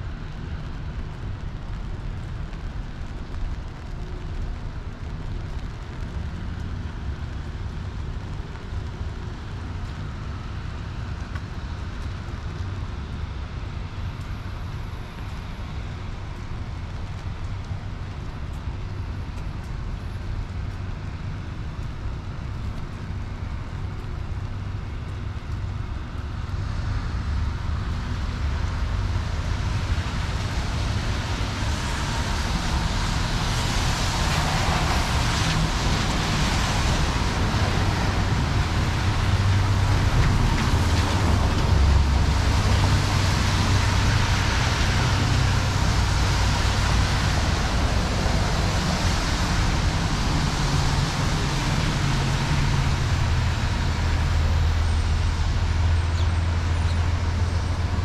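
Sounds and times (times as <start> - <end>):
traffic rumble: 0.0 - 58.0
tyres hissing on wet pavement: 0.1 - 58.0.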